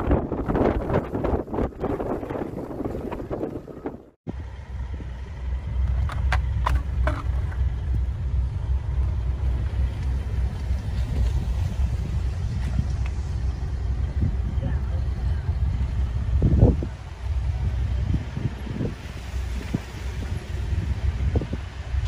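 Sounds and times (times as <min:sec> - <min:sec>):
highway traffic rumble: 0:00.0 - 0:22.0.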